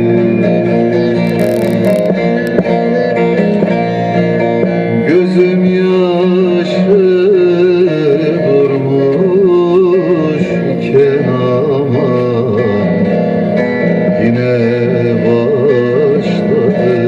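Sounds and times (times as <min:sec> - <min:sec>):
plucked strings: 0:00.0 - 0:17.0.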